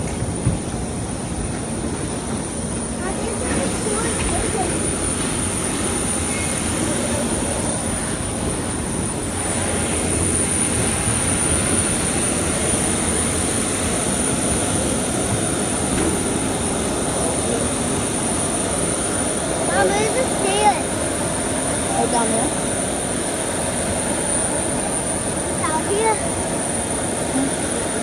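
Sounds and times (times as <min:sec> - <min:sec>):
aircraft rushing hum: 0:00.0 - 0:28.0
high aircraft whine: 0:00.0 - 0:28.0.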